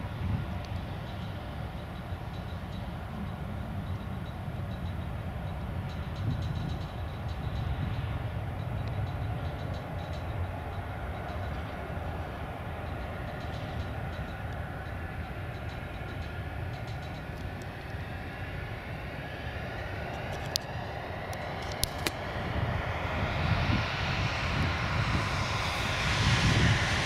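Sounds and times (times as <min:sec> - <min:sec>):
faint whining tones: 0:00.0 - 0:21.8
jet engines rumbling: 0:00.0 - 0:27.0.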